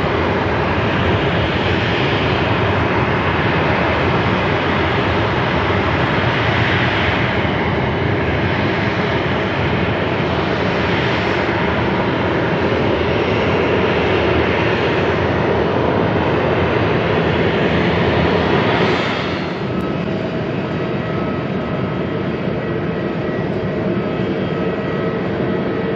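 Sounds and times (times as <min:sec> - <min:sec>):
jet engines roaring: 0:00.0 - 0:25.9.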